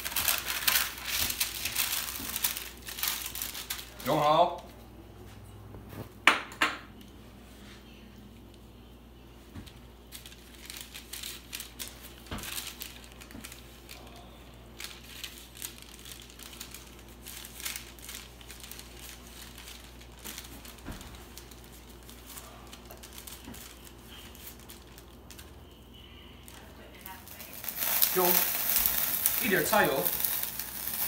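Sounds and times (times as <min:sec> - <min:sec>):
paper crinkling: 0:00.0 - 0:04.8, 0:09.7 - 0:25.8, 0:26.4 - 0:31.0.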